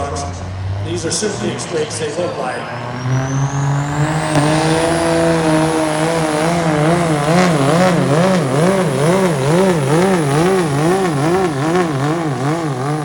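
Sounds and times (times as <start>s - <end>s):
diesel engine at full power: 0.0s - 13.0s.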